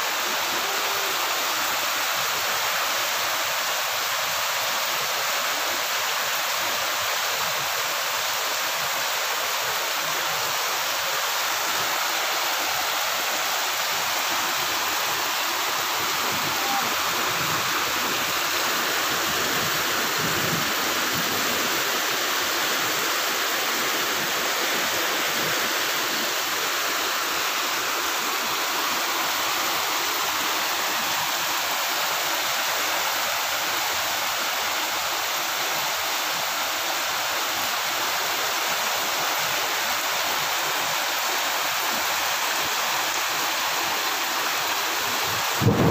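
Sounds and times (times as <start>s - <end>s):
heavy rain on foliage and roofs: 0.0s - 45.9s.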